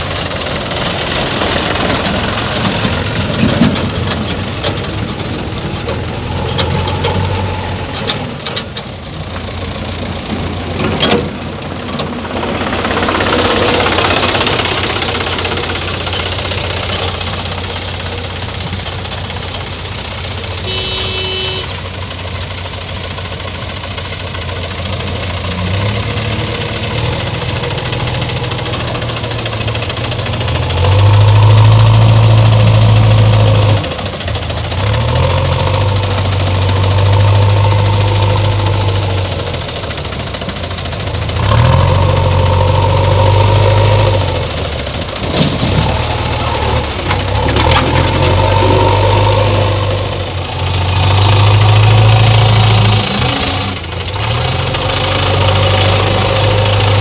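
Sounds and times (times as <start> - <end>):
backhoe loader diesel engine: 0.0 - 57.0
tractor engine running: 0.0 - 57.0.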